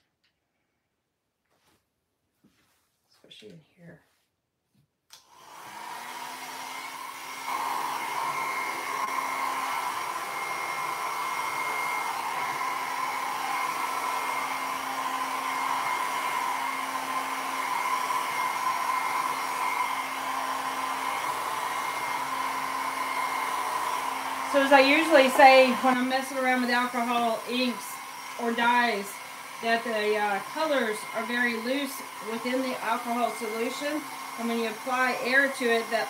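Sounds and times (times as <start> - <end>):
hair dryer blowing air: 5.1 - 36.0.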